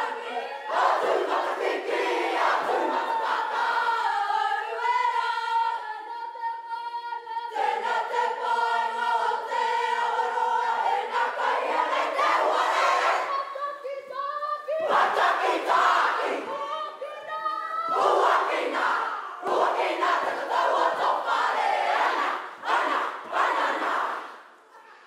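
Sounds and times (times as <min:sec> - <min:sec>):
group singing in unison: 0:00.0 - 0:24.6.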